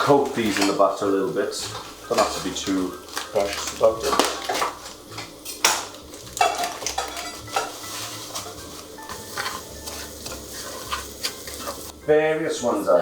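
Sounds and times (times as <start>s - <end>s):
utensil scraping and tapping pan: 0.0s - 11.9s
butter sizzling in a pan: 0.0s - 13.0s.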